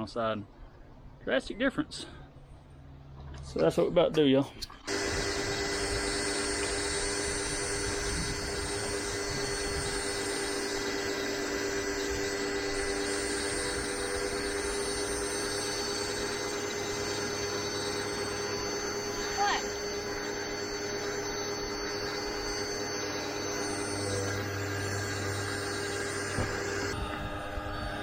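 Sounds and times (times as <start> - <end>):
pressure washer running: 4.9 - 28.0.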